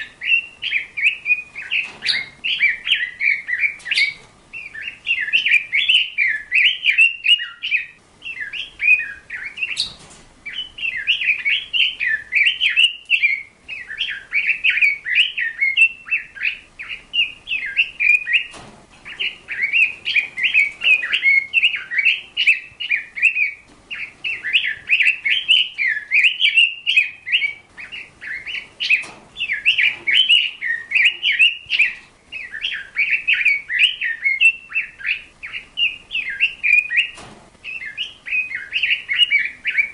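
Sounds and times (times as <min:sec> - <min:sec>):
songbird twittering warble: 0:00.0 - 0:39.9.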